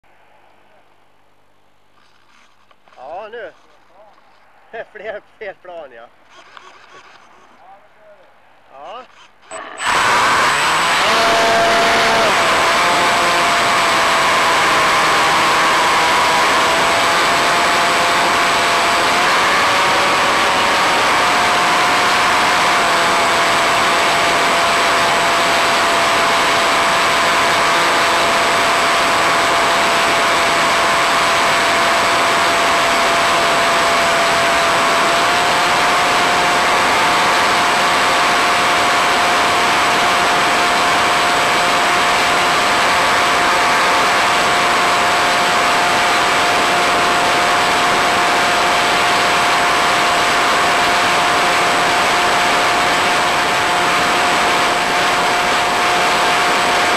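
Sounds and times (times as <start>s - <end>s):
electric motor whine: 9.2s - 56.9s.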